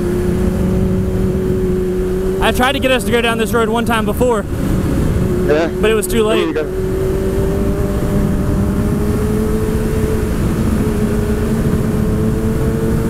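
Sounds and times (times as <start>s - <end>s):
motorcycle engine cruising: 0.0s - 13.0s
wind rumble: 0.0s - 13.0s.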